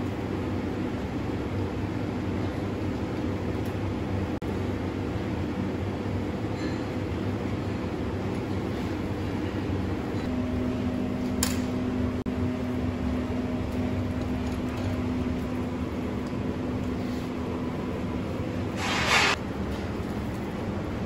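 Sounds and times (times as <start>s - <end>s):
kitchen machinery hum: 0.0s - 21.0s.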